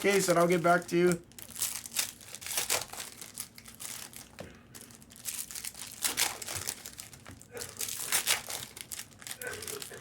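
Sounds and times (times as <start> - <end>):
plastic wrappers crinkling: 0.0 - 10.0.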